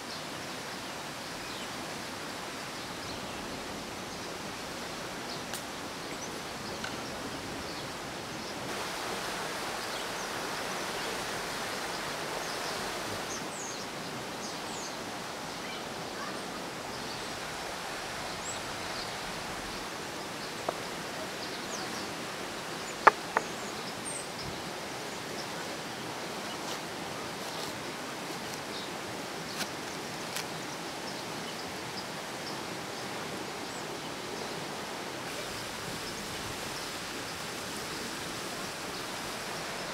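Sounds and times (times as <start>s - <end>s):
forest rushing hiss: 0.0s - 39.9s.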